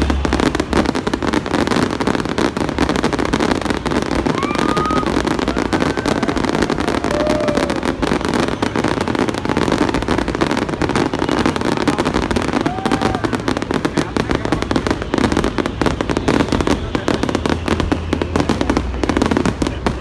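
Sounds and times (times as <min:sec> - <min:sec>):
fireworks crackling and banging: 0:00.0 - 0:20.0
fireworks whistles: 0:00.0 - 0:20.0.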